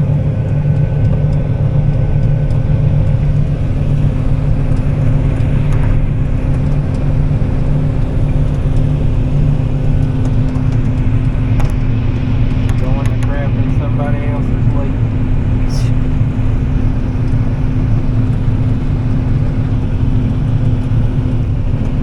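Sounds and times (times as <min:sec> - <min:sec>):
diesel farm machinery droning: 0:00.0 - 0:22.0.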